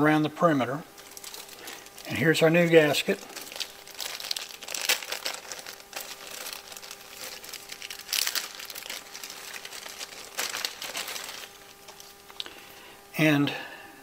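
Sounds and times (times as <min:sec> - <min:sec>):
plastic film crinkling: 0:00.9 - 0:12.6.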